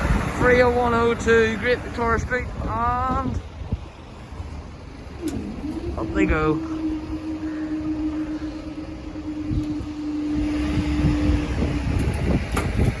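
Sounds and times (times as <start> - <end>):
low outdoor rumble: 0.0 - 13.0
barrier mechanism hum: 0.1 - 13.0.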